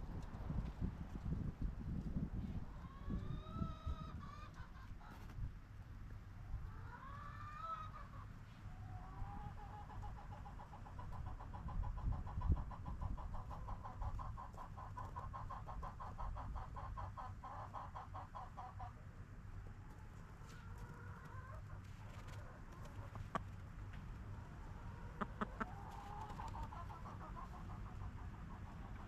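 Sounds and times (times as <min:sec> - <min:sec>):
chickens clucking: 0:02.1 - 0:05.5, 0:06.5 - 0:29.0.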